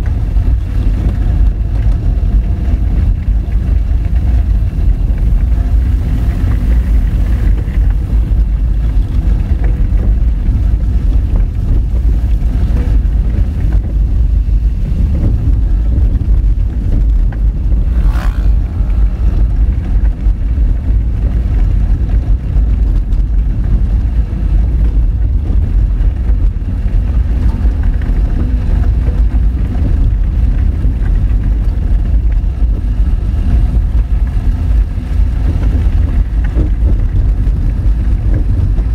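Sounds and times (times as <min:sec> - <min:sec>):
tyres rumbling on gravel: 0:00.0 - 0:38.9.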